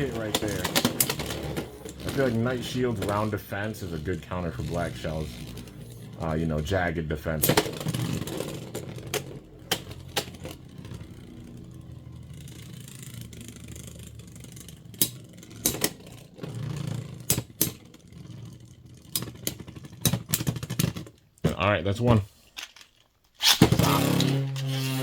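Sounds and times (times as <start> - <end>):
spinning tops whirring: 0.0 - 21.0, 23.4 - 25.0.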